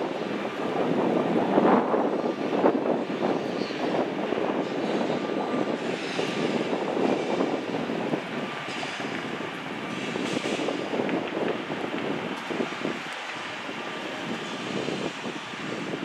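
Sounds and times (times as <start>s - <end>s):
rushing vehicle noise: 0.0s - 16.0s.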